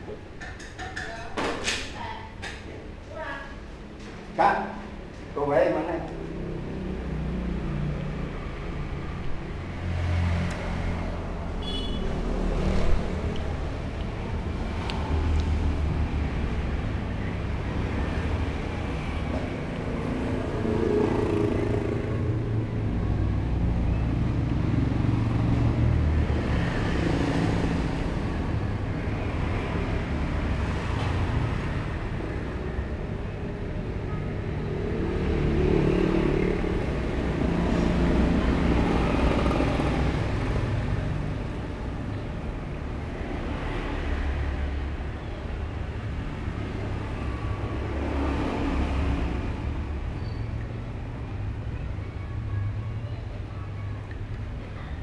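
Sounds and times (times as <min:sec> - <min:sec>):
street traffic passing: 0:00.0 - 0:55.0.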